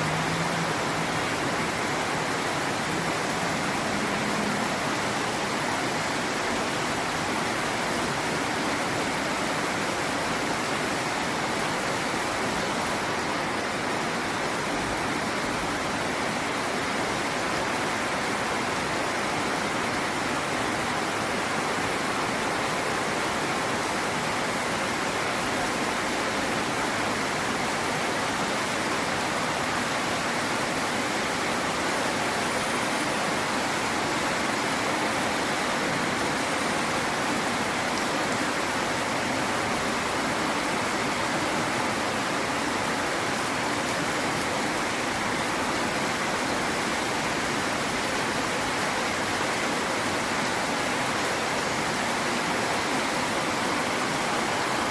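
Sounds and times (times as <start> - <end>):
rain pouring down: 0.0 - 54.9.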